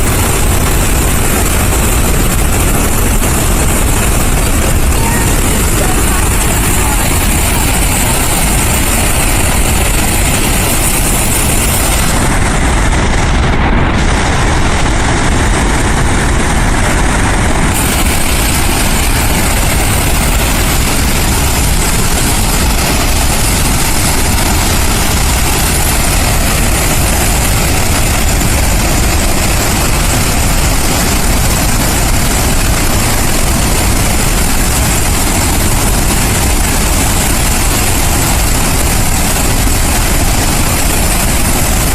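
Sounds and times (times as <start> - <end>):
floodwater rushing through dam: 0.0 - 41.9.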